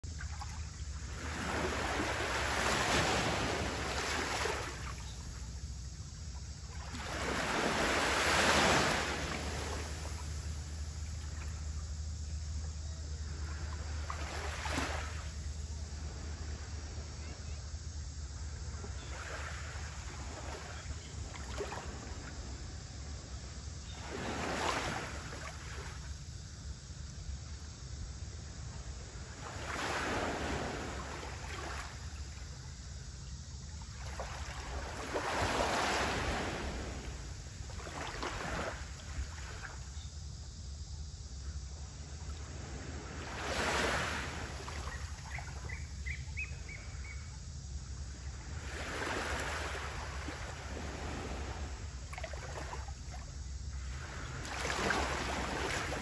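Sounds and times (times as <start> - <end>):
sea waves lapping: 0.0 - 17.4, 18.4 - 23.2, 23.8 - 26.4, 28.4 - 40.0, 41.4 - 56.0.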